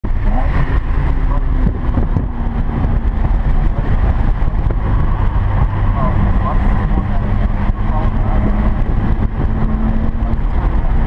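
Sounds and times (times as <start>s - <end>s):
tyre and road noise: 0.0s - 11.0s
car engine drone from cabin: 0.1s - 11.0s.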